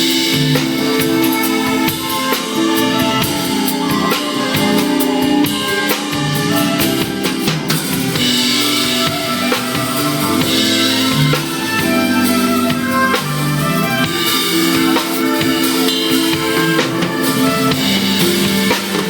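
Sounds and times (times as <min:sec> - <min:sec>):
band backing track: 0:00.0 - 0:19.0
drum kit playing: 0:00.0 - 0:19.0.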